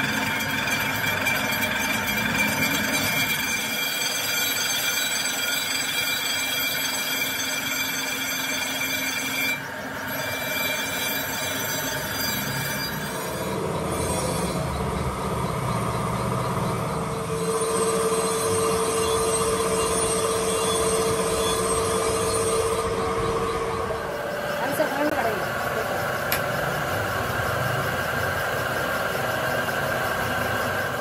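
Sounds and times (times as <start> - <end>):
grinding wheel whining grind: 0.0 - 31.0
machine running noise: 0.0 - 31.0.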